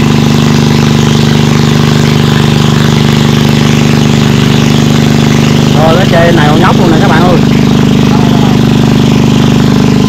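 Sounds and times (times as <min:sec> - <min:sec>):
small engine running steadily: 0:00.0 - 0:10.0.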